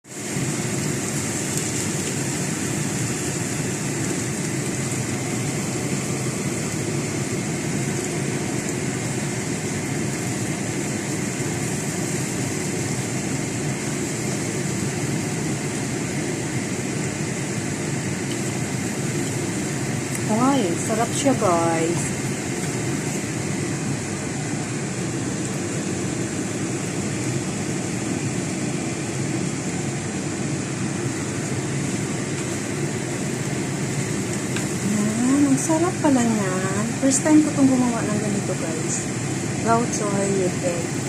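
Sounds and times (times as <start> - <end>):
eggs sizzling in a pan: 0.1 - 28.6, 30.3 - 41.0.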